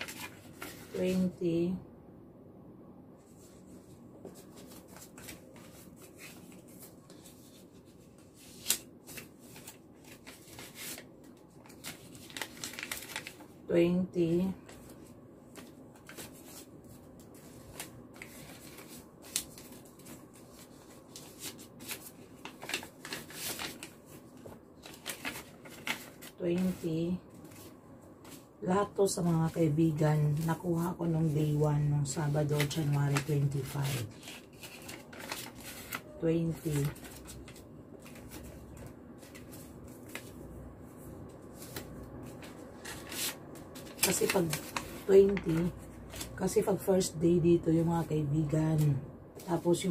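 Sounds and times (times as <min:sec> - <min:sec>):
paper envelopes and banknotes rustling: 0:00.0 - 0:01.4, 0:03.3 - 0:49.9.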